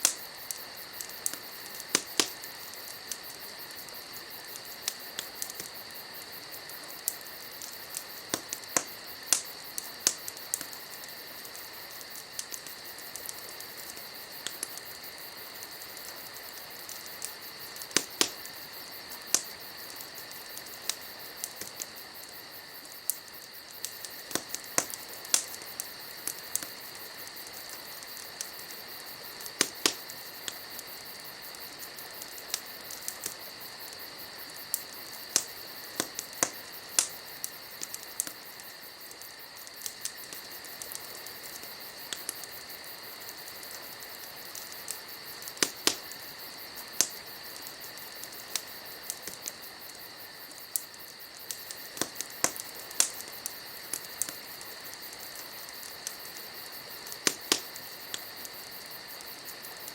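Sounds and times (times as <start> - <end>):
crickets chirping: 0.0 - 59.9
wood fire crackling: 0.0 - 59.9.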